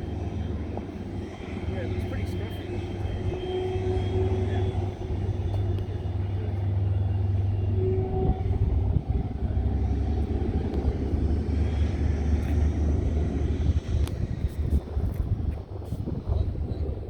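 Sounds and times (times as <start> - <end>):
distant aircraft engine rumble: 0.0 - 17.0.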